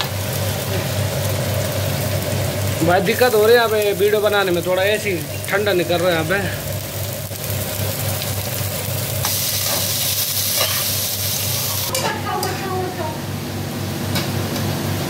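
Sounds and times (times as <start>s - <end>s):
onions sizzling in oil: 0.0s - 12.4s.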